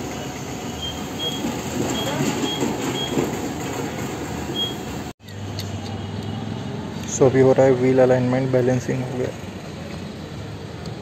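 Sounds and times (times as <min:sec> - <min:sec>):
workshop background noise: 0:00.0 - 0:11.0.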